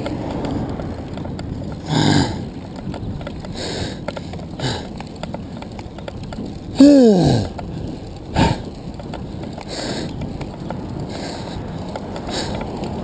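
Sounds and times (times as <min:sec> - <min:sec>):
tyre and wind noise: 0:00.0 - 0:13.0
rider breathing: 0:00.2 - 0:13.0.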